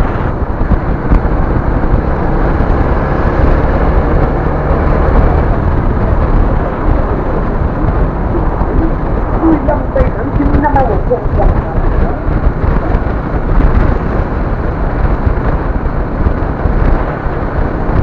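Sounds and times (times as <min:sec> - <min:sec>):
engine rumble: 0:00.0 - 0:18.0
wind noise: 0:00.0 - 0:18.0.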